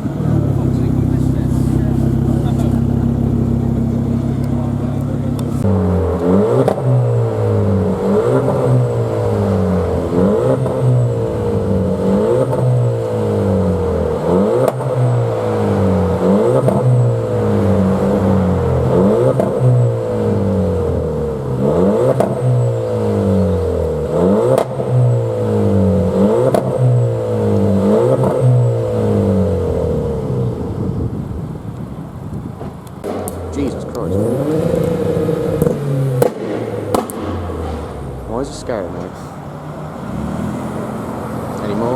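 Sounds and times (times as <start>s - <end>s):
engine revving: 0.0s - 31.1s, 33.0s - 41.9s.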